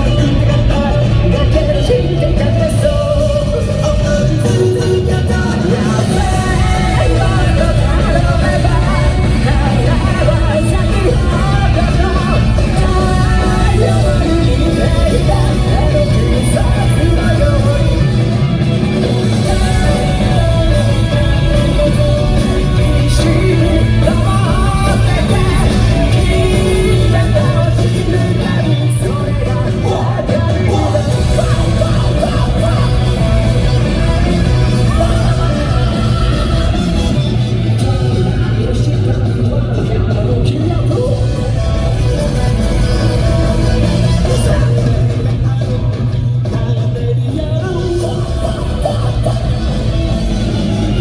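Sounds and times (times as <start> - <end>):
crowd yelling: 0.0 - 51.0
person singing: 0.0 - 51.0
rock band playing: 0.0 - 51.0.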